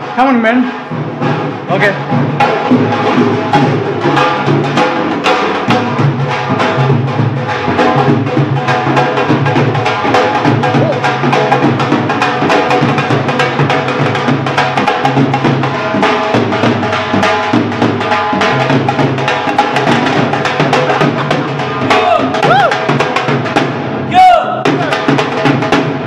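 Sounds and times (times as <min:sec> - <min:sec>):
barrel drums beaten fast: 0:00.0 - 0:26.0.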